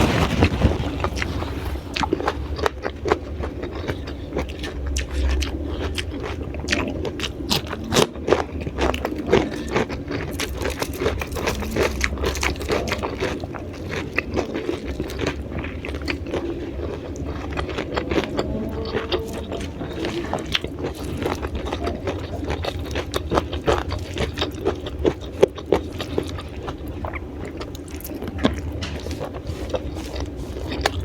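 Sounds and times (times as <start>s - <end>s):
chewing crunchy raw vegetables: 0.0s - 31.0s
steady low hum: 0.0s - 31.0s.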